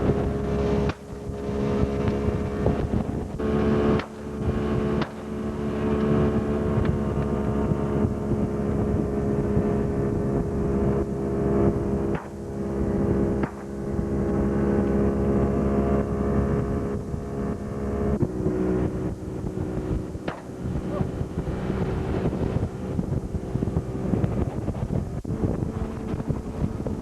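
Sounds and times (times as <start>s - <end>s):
boat engine running: 0.0s - 27.0s
wind buffeting microphone: 0.0s - 27.0s.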